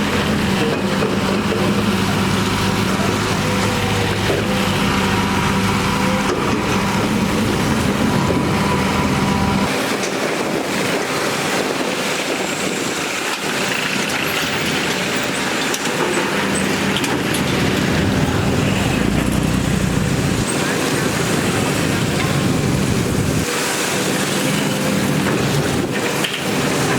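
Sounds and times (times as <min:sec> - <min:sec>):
diesel machinery engine drone: 0:00.0 - 0:26.9
rough hissy machine noise: 0:00.0 - 0:26.9.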